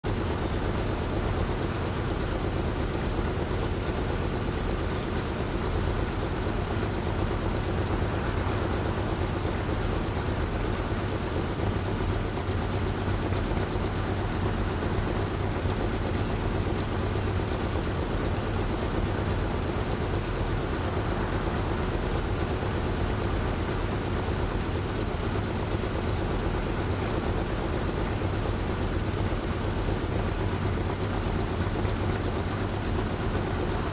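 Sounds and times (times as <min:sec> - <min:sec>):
low engine drone: 0:00.0 - 0:33.9.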